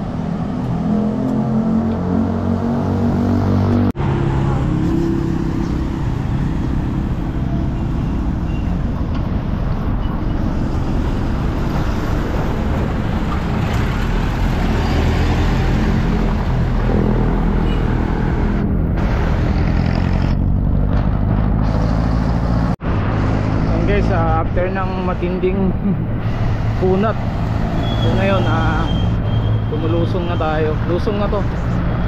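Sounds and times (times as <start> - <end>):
motor vehicles passing: 0.0 - 32.0.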